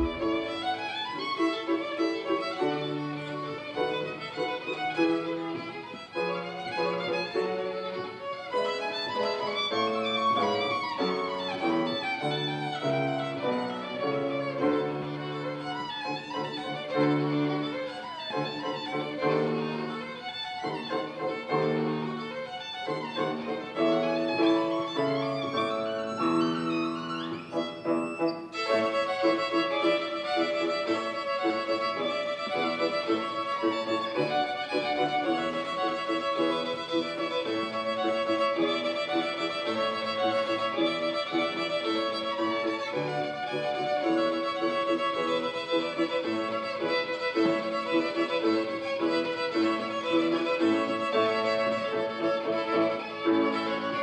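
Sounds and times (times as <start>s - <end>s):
violin played with a bow: 0.0s - 54.0s.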